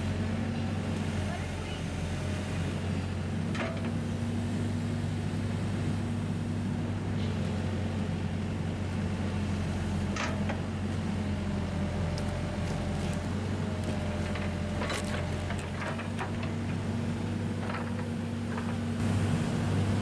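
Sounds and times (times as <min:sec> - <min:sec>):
motor humming steadily: 0:00.0 - 0:20.0.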